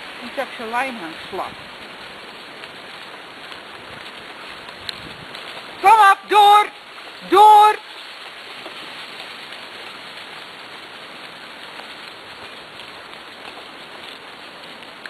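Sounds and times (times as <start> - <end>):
cart rolling on wet dirt trail: 0.0 - 15.0.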